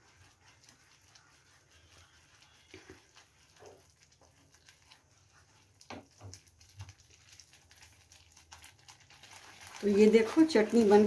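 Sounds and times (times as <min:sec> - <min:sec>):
spatula stirring paste in pan: 0:00.0 - 0:11.0.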